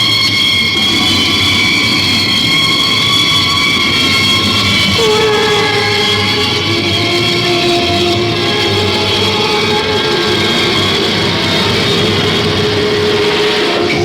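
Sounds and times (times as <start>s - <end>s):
droning horror music: 0.0s - 14.0s.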